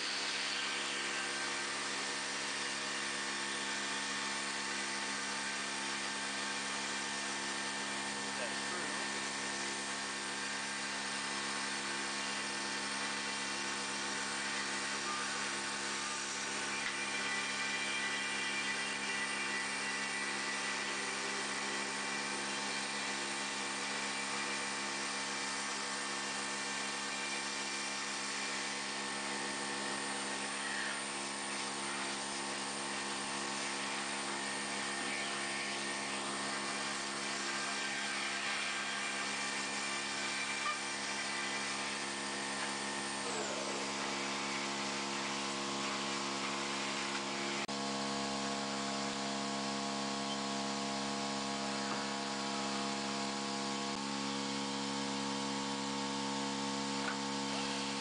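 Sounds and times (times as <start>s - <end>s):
router spindle and vacuum drone: 0.0s - 58.0s.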